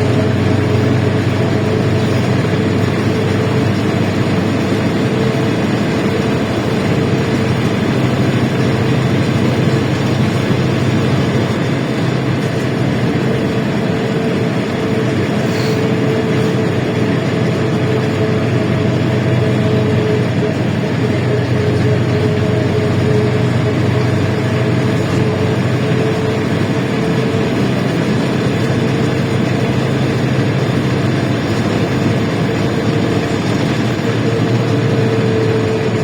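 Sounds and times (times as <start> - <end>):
bus engine humming: 0.0 - 36.0
road noise: 0.0 - 36.0.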